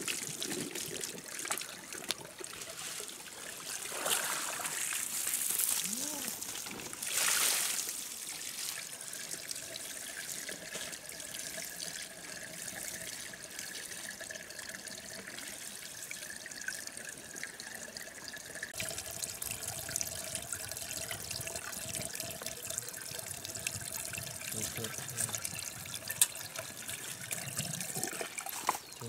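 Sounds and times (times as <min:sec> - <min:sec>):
water gushing from pump outlet: 0:00.0 - 0:29.0.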